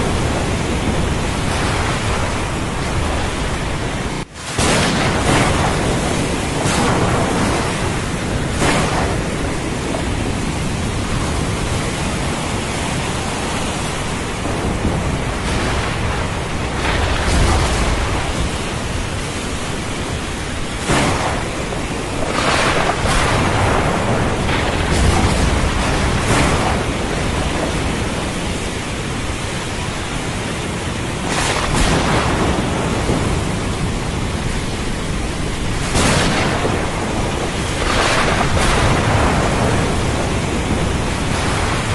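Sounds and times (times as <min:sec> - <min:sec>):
steady rain hiss: 0:00.0 - 0:41.9
thunder rolling: 0:00.0 - 0:41.9.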